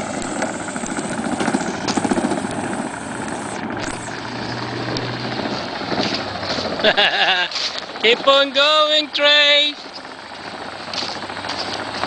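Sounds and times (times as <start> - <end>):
low steady hum: 0.0 - 12.0
small vehicle running: 0.0 - 12.0.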